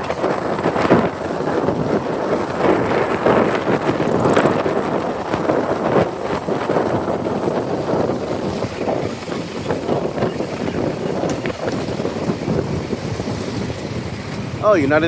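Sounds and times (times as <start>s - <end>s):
motorcycle engine: 0.0s - 15.0s
traffic noise: 0.0s - 15.0s
wind buffeting microphone: 0.0s - 15.0s.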